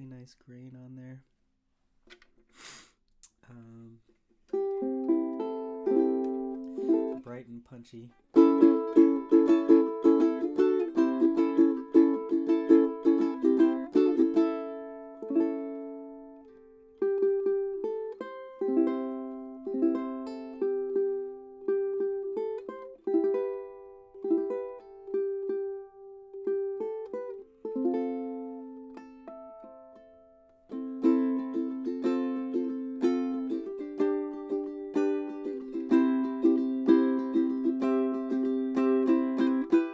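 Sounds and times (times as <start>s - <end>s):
ukulele strumming and picking: 4.4s - 7.5s, 8.2s - 39.9s.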